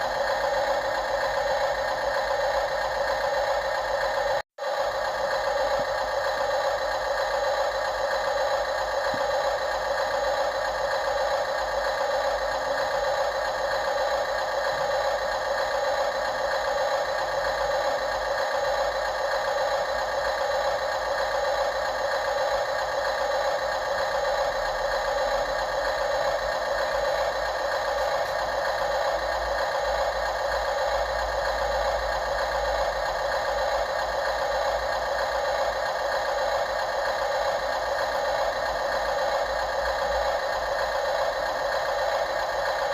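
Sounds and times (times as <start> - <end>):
model machine mechanical drone: 0.0 - 42.9.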